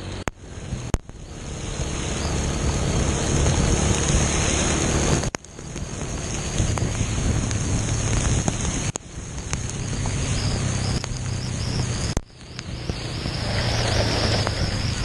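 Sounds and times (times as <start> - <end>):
heavy rain: 0.0 - 15.0
low rumble: 0.0 - 15.0
rushing floodwater: 0.0 - 15.0
wind buffeting microphone: 0.4 - 15.0.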